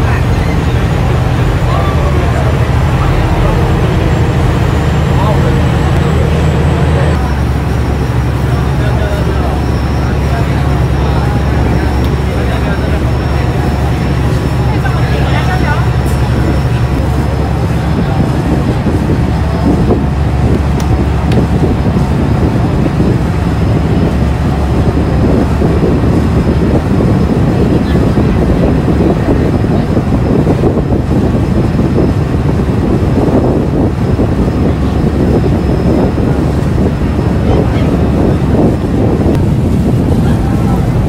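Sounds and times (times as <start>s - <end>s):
ferry engine drone: 0.0s - 41.0s
water washing along hull: 0.0s - 41.0s
wind buffeting microphone: 0.0s - 41.0s.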